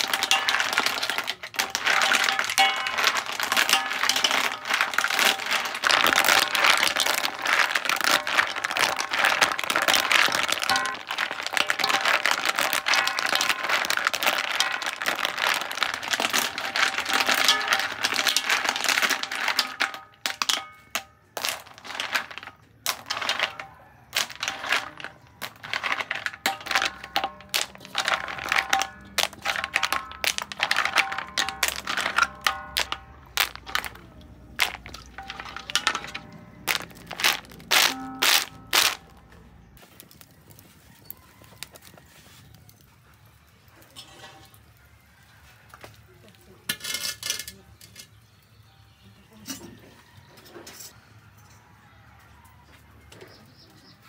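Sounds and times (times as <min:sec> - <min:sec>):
clam shells clattering in a wok: 0:00.0 - 0:42.6, 0:43.5 - 0:45.2, 0:45.8 - 0:48.6.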